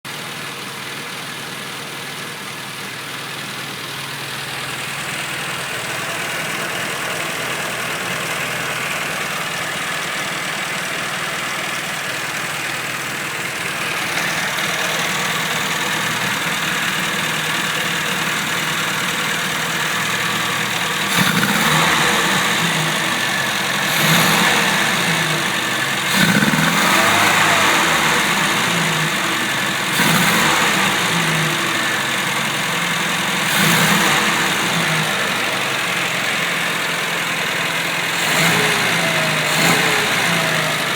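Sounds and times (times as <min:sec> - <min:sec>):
car engine idling and stuttering: 0:00.0 - 0:40.9.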